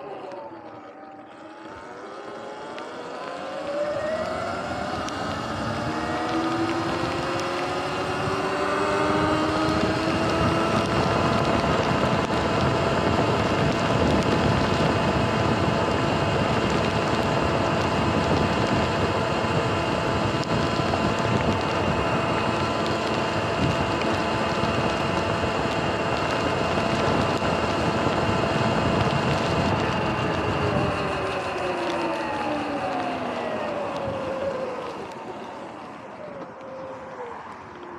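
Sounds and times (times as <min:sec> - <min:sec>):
electric motor whine: 0:00.0 - 0:37.9
tyres on wet pavement: 0:00.0 - 0:37.9.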